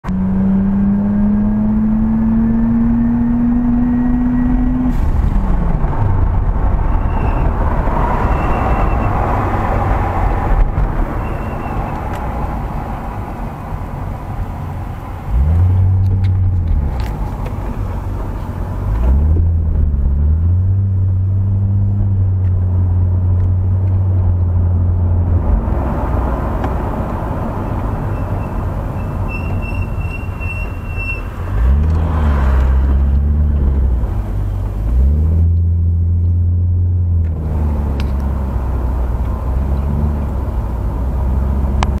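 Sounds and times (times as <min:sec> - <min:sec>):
car engine drone: 0:00.0 - 0:42.0
road noise: 0:00.0 - 0:42.0.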